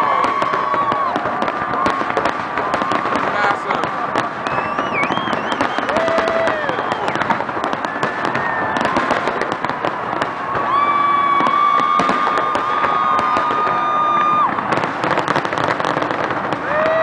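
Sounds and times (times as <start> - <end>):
firework whistles: 0.0 - 17.0
fireworks crackling and banging: 0.0 - 17.0.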